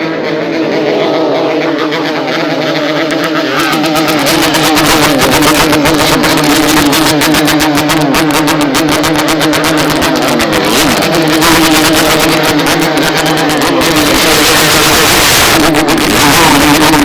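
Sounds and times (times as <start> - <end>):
motorcycle engine revving high: 0.0 - 17.0.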